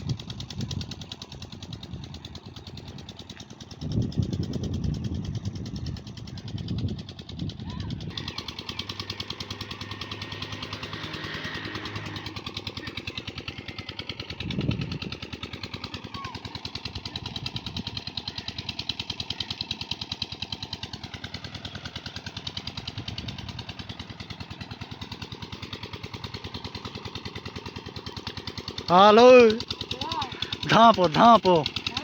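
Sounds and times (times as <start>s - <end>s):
engine chugging: 0.0s - 32.0s.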